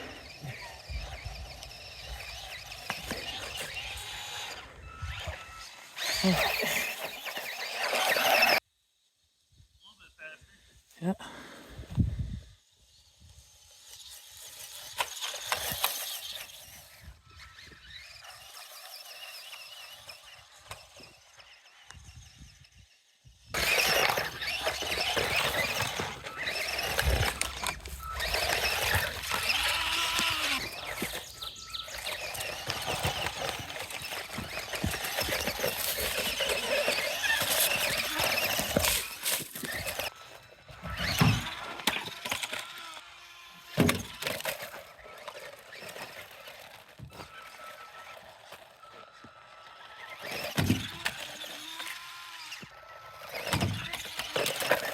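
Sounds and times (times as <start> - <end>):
toy truck scraping and clattering: 0.0 - 8.6, 12.6 - 54.9
electric motor whine: 0.0 - 9.1, 12.0 - 54.9.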